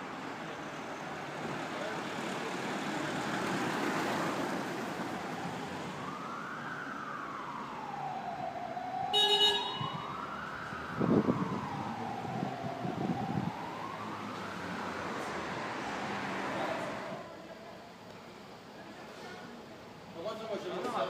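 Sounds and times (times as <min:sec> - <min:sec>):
emergency vehicle siren wailing: 0:00.0 - 0:18.0
street traffic noise: 0:00.0 - 0:21.0.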